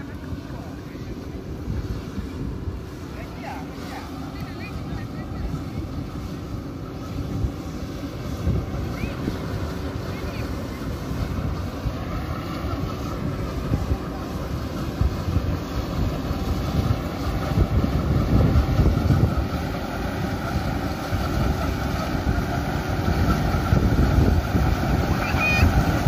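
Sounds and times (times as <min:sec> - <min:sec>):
combine harvester running: 0:00.0 - 0:26.0
wind rumbling on microphone: 0:00.0 - 0:26.0.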